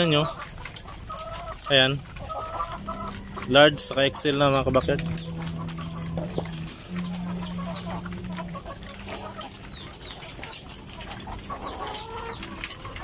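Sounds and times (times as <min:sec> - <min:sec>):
hens clucking: 0:00.0 - 0:13.0
low hum: 0:01.6 - 0:13.0.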